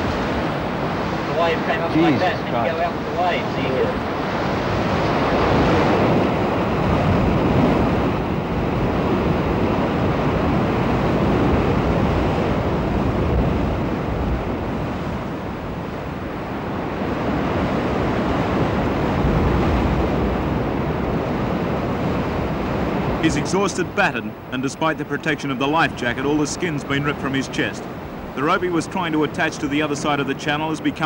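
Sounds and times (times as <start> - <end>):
heavy surf breaking: 0.0 - 31.0.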